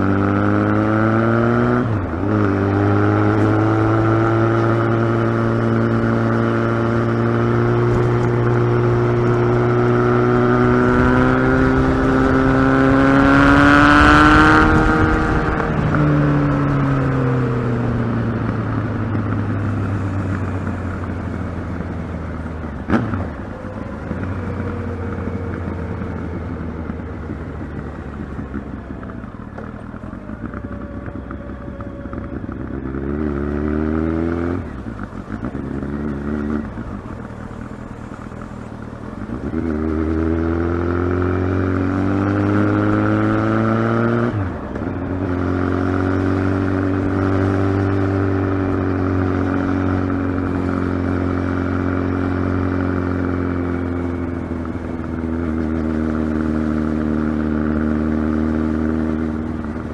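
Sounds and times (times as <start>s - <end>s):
motorcycle engine shifting gears: 0.0s - 59.9s.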